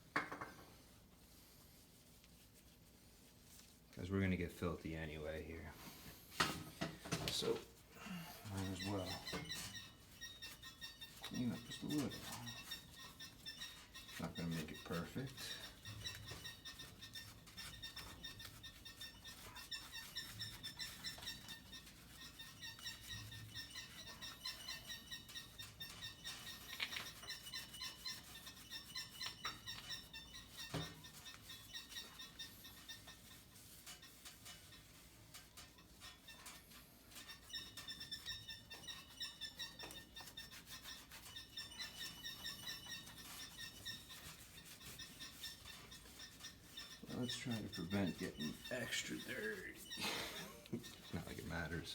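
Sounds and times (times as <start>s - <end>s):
rag wiping with faint squeaks: 0.0s - 51.9s.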